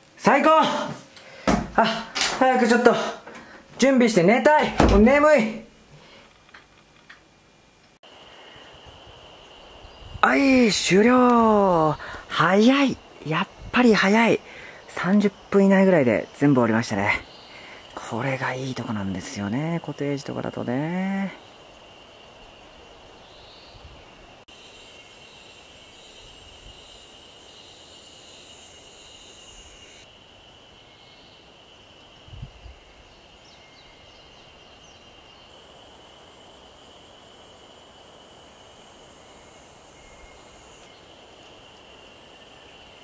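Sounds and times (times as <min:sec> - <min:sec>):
high insect drone: 0:00.0 - 0:43.0.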